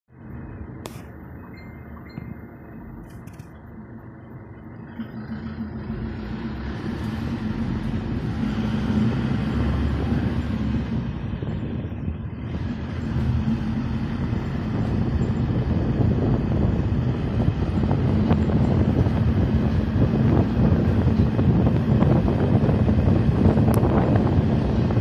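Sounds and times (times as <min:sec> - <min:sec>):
road noise: 0:00.1 - 0:25.0
vehicle engine: 0:00.1 - 0:25.0.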